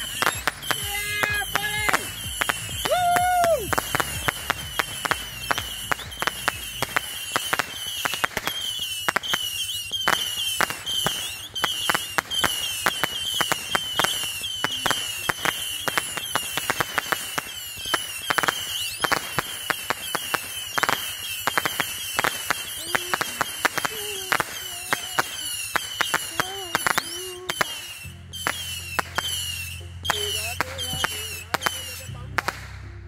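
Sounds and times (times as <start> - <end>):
high repeating chirp: 0.0 - 2.9, 3.6 - 32.2
fireworks popping and banging: 0.0 - 32.9.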